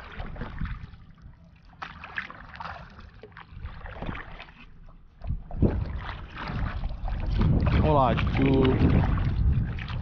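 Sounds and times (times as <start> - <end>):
water splashing around kayak: 0.0 - 10.0.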